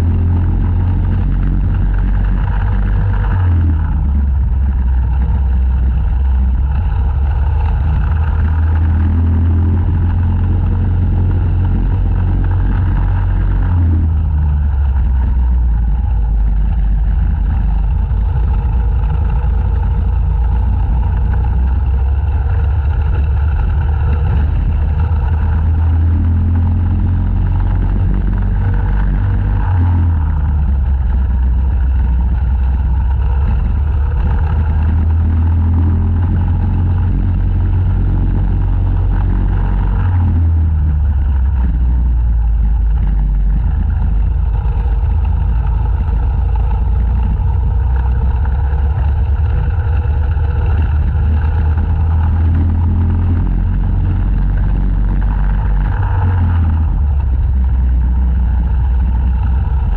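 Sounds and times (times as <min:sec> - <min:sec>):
go-kart engine at speed: 0:00.0 - 0:59.9.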